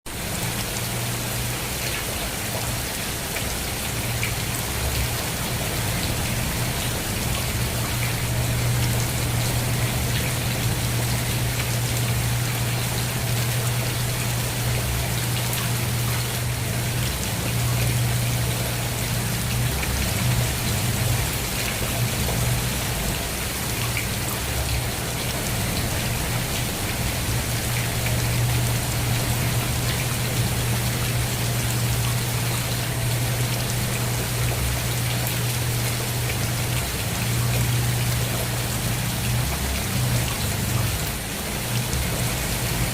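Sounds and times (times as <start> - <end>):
steady rain falling: 0.1 - 42.9.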